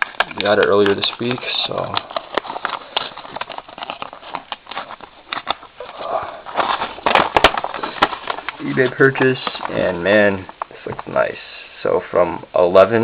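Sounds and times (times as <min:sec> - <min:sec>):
packaging rustling and crinkling: 0:00.0 - 0:11.5.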